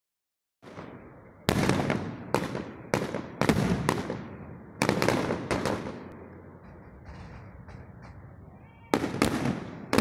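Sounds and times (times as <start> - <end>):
fireworks bangs: 0.6 - 10.0.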